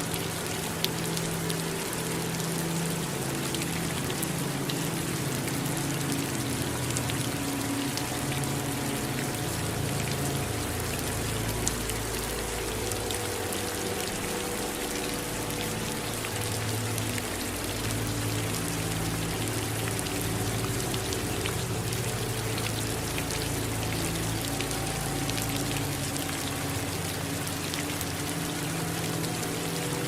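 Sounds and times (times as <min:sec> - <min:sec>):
running water: 0:00.0 - 0:30.0
steady rain: 0:00.0 - 0:30.0.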